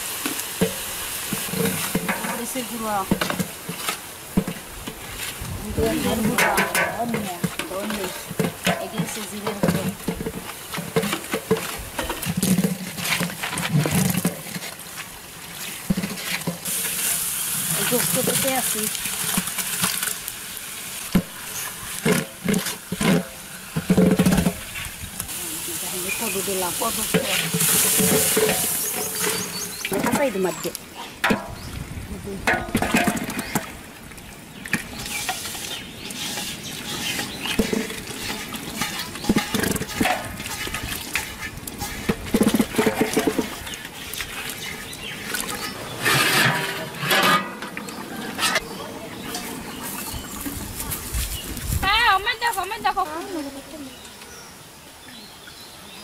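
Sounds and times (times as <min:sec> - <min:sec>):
metal ladle scraping a pot: 0:00.2 - 0:20.2, 0:21.1 - 0:31.6, 0:32.5 - 0:33.7, 0:34.7 - 0:51.3.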